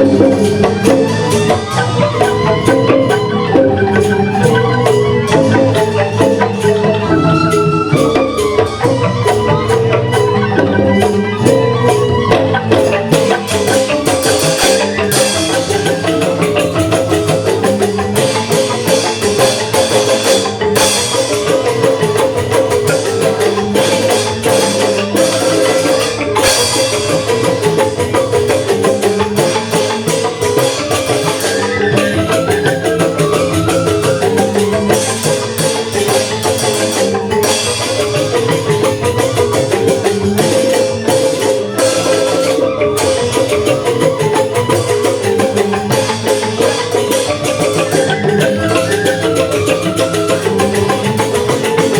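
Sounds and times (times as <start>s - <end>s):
bamboo xylophones struck: 0.0s - 51.9s
percussion keeping time: 0.0s - 51.9s.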